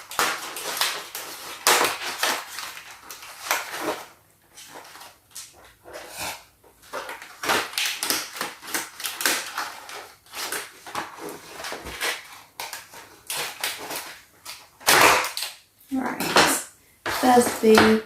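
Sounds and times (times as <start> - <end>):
toy box and packaging rustling: 0.0 - 18.0.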